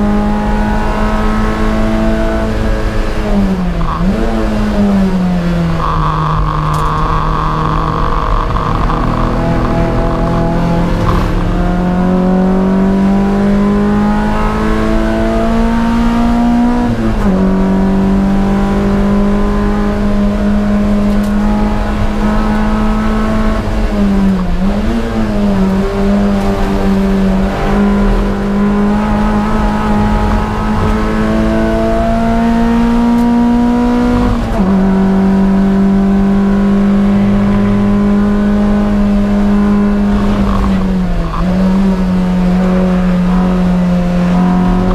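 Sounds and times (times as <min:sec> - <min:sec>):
race car engine revving: 0:00.0 - 0:44.9
road and wind noise: 0:00.0 - 0:44.9.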